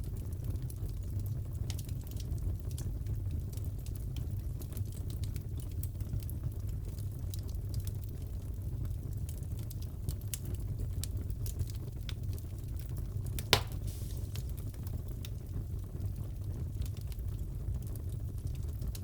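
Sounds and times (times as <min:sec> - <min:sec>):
burning logs rumbling: 0:00.0 - 0:19.0
fire crackling and popping: 0:00.0 - 0:19.0.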